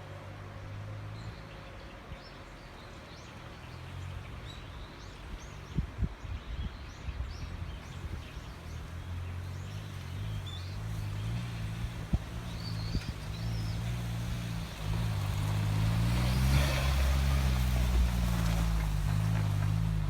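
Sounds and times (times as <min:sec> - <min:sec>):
low engine hum: 0:00.0 - 0:20.0
small birds chirping: 0:01.2 - 0:20.0.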